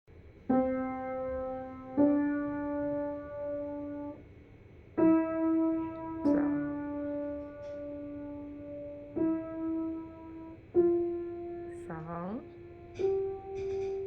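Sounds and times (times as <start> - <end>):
slow single piano notes: 0.4 - 4.2, 4.9 - 14.0.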